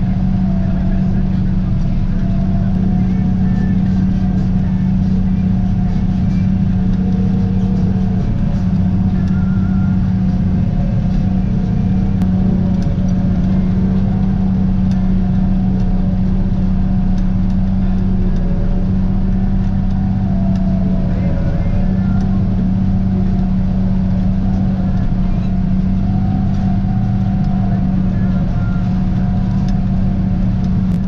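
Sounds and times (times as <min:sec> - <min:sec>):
tractor engine droning under load: 0:00.0 - 0:31.0.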